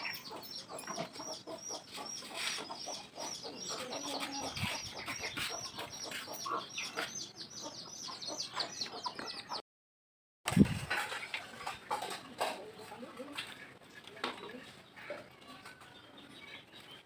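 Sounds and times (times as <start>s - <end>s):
chickens clucking: 0.0s - 9.6s, 10.7s - 17.0s.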